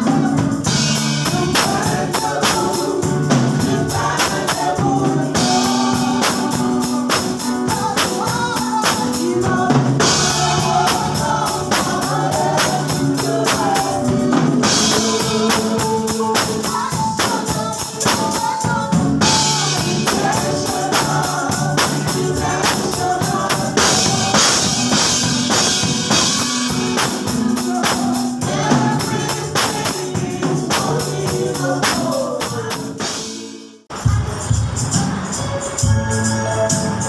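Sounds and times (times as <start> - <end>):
drum kit: 0.0 - 37.0
gospel singing: 0.0 - 37.0
tambourine: 0.0 - 37.0.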